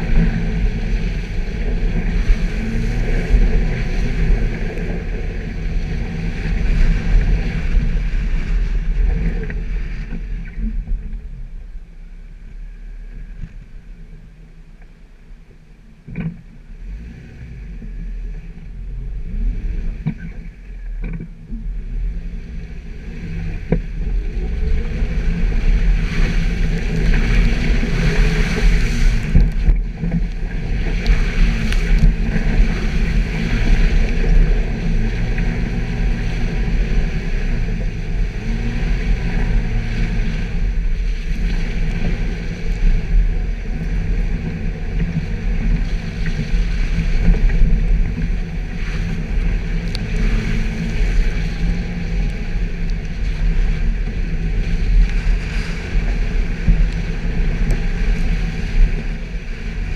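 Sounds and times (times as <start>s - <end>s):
vehicle engine rumble: 0.0s - 59.9s.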